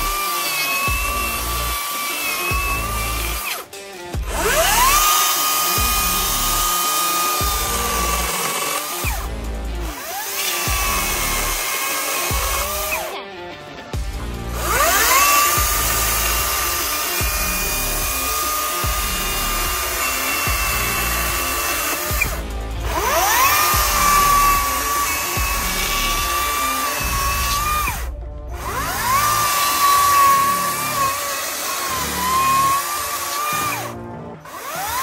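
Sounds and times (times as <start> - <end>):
background music with steady beat: 0.0 - 35.0
chainsaw whining and cutting wood: 0.0 - 35.0.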